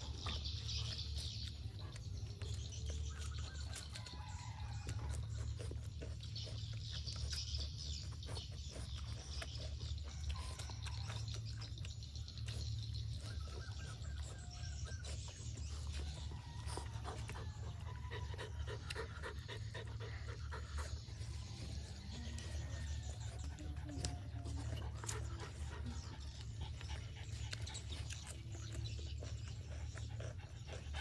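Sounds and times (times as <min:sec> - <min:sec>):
dog chewing chicken wings: 0:00.0 - 0:31.0
dog panting: 0:00.0 - 0:31.0.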